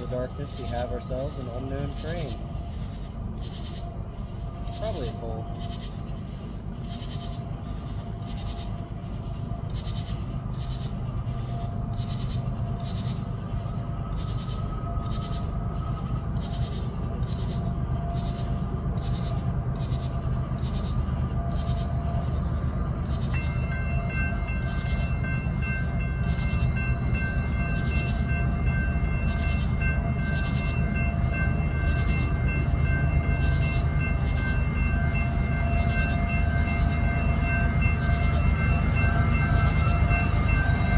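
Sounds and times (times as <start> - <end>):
diesel locomotive engine rumble: 0.0 - 40.9.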